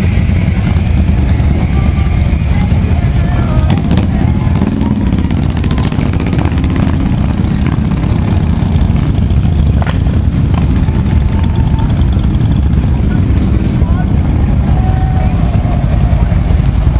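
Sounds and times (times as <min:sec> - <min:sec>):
motorcycle engines running: 0:00.0 - 0:16.9.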